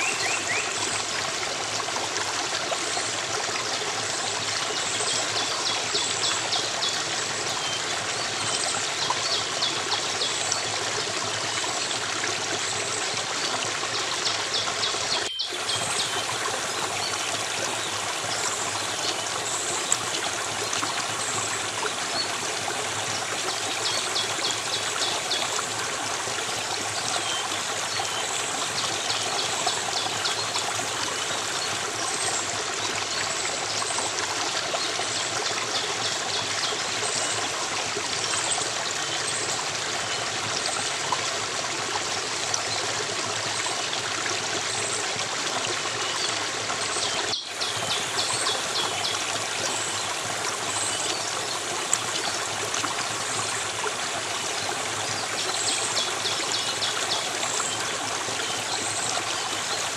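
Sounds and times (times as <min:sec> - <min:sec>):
stream running water: 0:00.0 - 0:59.9.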